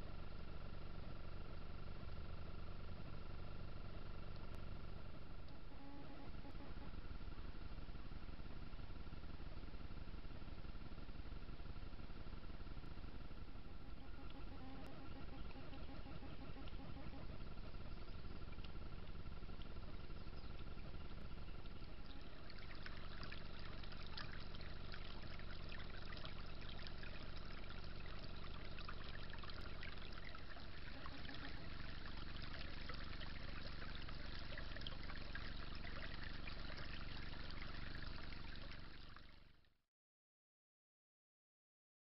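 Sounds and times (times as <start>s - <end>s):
creek trickling and babbling: 5.0s - 39.7s.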